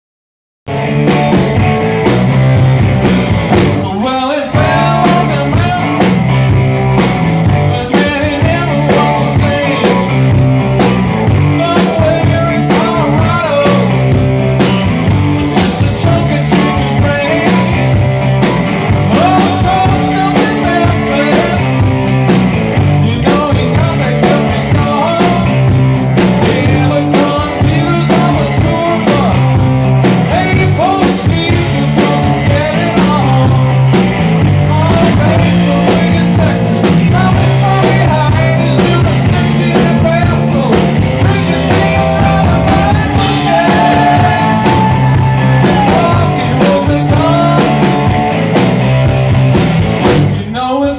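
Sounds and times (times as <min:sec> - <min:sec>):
live rock band playing: 0:00.7 - 0:50.9
lead vocal singing: 0:03.5 - 0:06.5, 0:07.4 - 0:18.0, 0:18.7 - 0:22.0, 0:22.6 - 0:48.6, 0:50.2 - 0:50.9.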